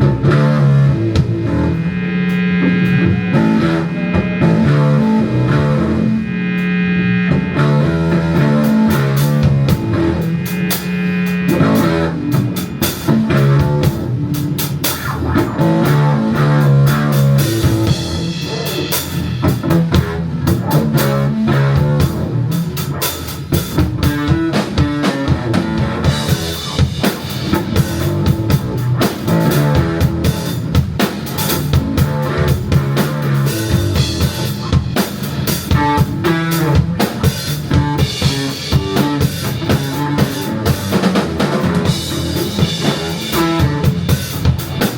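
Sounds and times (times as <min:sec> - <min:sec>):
drum kit beating: 0:00.0 - 0:44.9
electric guitar: 0:00.0 - 0:44.9
live rock band playing: 0:00.0 - 0:44.9.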